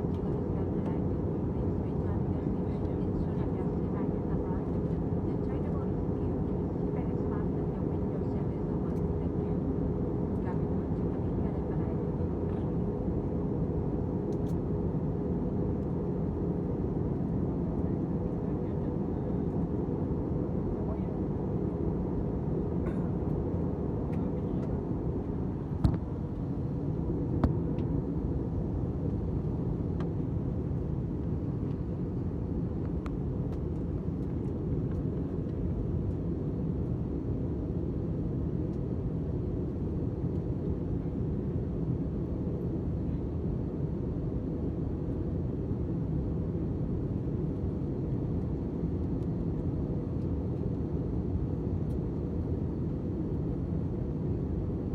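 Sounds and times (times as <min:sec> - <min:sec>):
airliner rumble: 0:00.0 - 0:54.9.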